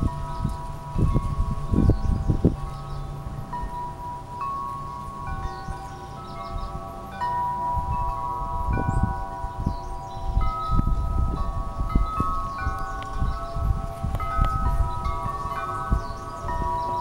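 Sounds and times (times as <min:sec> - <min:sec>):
wind chimes ringing: 0:00.0 - 0:17.0.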